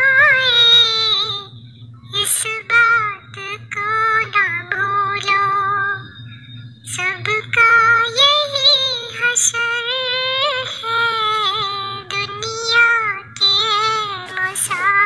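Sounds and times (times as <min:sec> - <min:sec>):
high voice singing devotional song: 0:00.0 - 0:15.0.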